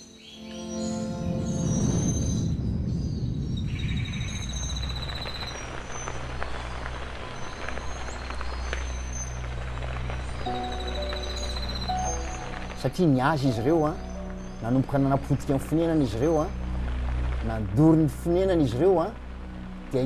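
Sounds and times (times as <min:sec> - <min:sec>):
low steady drone: 0:00.6 - 0:20.0
fire crackling: 0:01.4 - 0:20.0.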